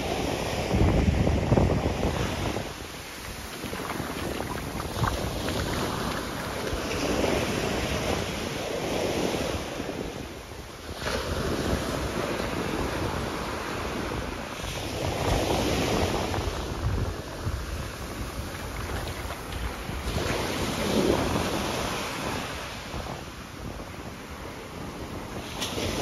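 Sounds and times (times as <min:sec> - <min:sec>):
small surf washing on sand: 0:00.0 - 0:26.0
wind buffeting microphone: 0:00.0 - 0:26.0.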